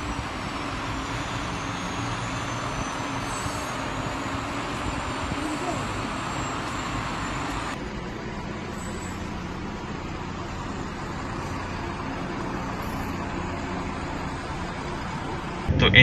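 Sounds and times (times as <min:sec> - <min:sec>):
road noise: 0:00.0 - 0:16.0
truck engines humming: 0:00.0 - 0:16.0.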